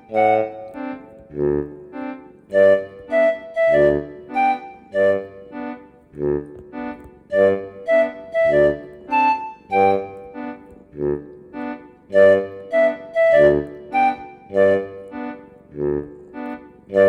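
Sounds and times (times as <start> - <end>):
organ-like keyboard music: 0.0 - 17.0.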